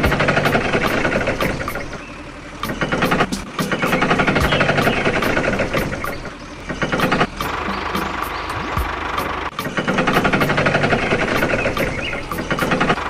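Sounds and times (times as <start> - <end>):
diesel tractor engine knocking: 0.0 - 13.0.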